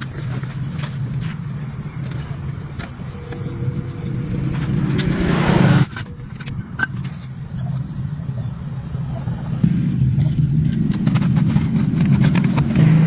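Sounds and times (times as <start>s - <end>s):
thin steady high tone: 0.0s - 10.5s
water pump low rumble: 0.0s - 13.0s.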